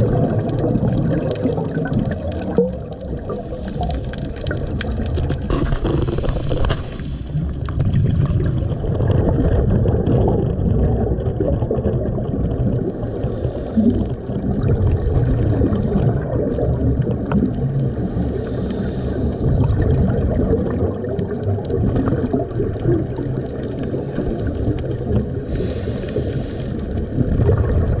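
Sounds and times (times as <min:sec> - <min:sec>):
hissing bubble bursts: 0:00.0 - 0:28.0
low rumble of moving water: 0:00.0 - 0:28.0.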